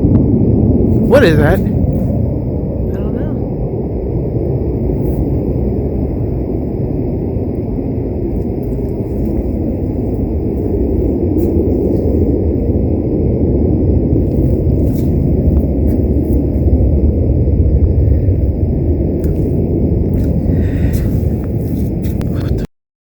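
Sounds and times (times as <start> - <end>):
deep rumbling roar from the sky: 0.0 - 22.7.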